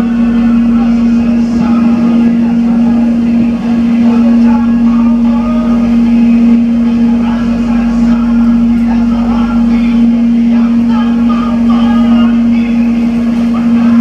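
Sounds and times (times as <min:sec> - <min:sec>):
low running rumble: 0:00.0 - 0:14.0
train cabin hum: 0:00.0 - 0:14.0.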